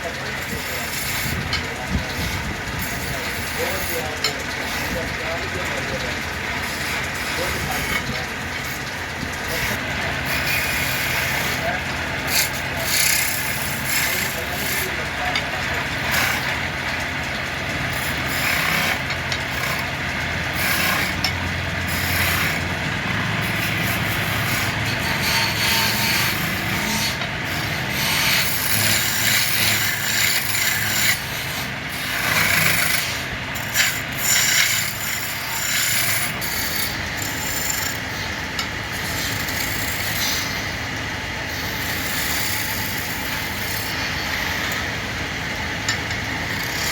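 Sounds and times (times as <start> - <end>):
tool scraping spinning wood: 0.0 - 46.9.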